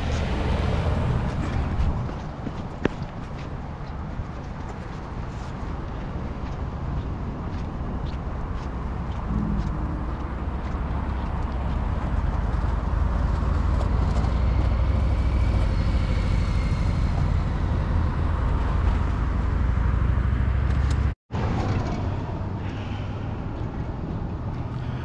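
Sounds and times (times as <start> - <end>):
passing cars rumbling: 0.0 - 4.7, 5.7 - 25.0.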